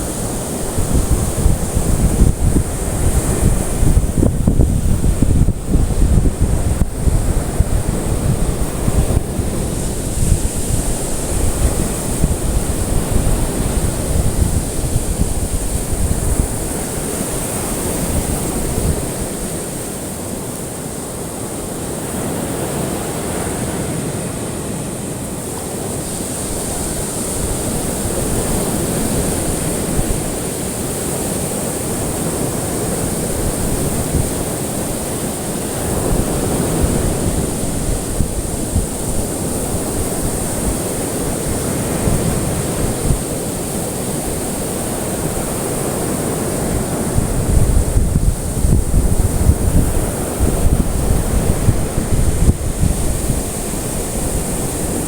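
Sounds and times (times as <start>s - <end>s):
ocean waves washing on shore: 0.0s - 55.0s.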